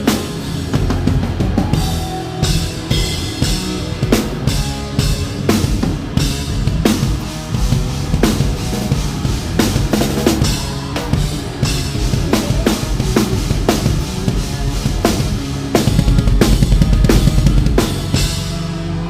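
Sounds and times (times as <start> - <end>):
bass and guitar: 0.0 - 19.0
rock drum kit: 0.0 - 19.0.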